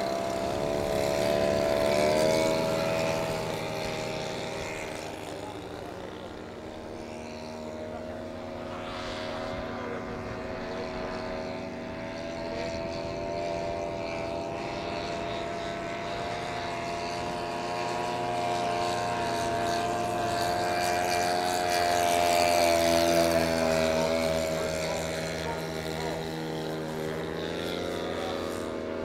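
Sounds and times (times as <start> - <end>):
model plane engines droning: 0.0 - 29.0.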